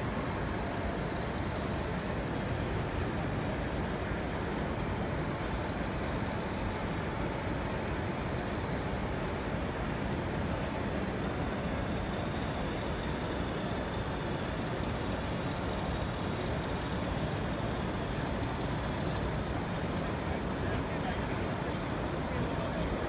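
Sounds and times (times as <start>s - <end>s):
busy hall background rumble: 0.0s - 23.0s.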